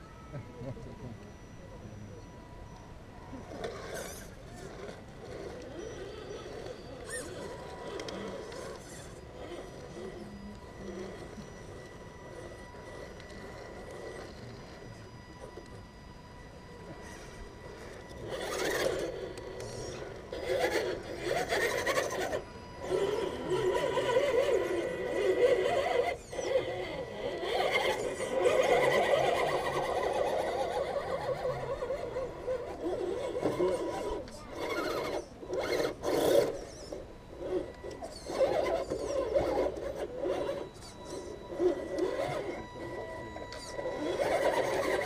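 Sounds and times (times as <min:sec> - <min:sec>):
electric motors whining: 0:00.0 - 0:45.0.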